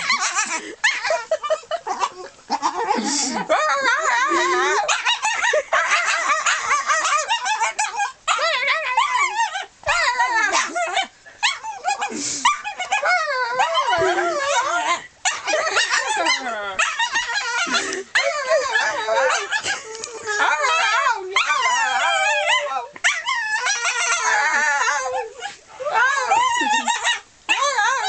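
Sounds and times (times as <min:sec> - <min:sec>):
dog whining: 0:00.0 - 0:28.0.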